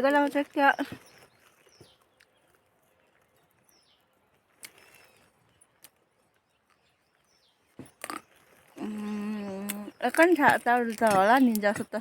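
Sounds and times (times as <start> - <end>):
faint bird chirp: 0.2 - 10.6.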